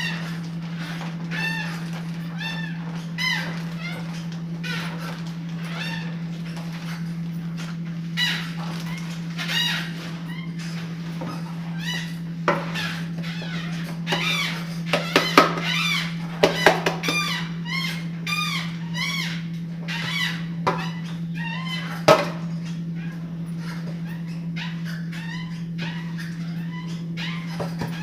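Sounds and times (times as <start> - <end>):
birds calling: 0.0 - 28.0
steady low hum: 0.0 - 28.0.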